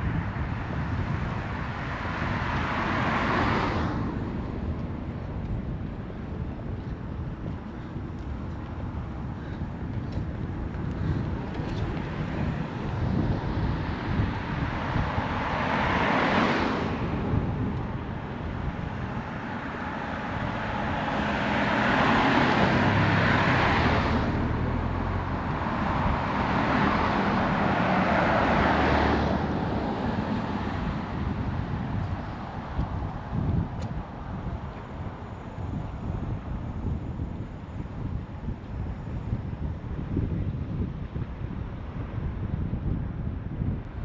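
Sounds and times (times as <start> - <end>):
cars passing by: 0.0 - 44.0
low traffic rumble: 0.0 - 44.0.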